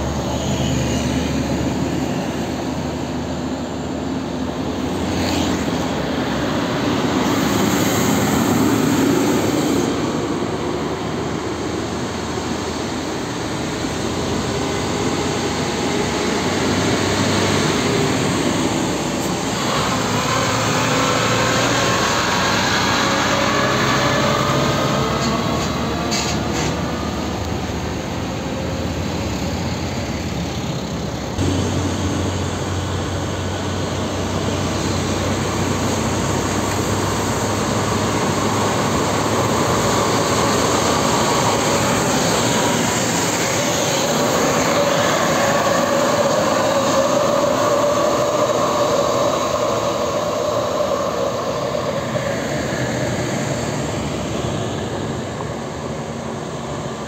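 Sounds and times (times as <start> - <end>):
diesel trucks engines pulling: 0.0 - 57.0.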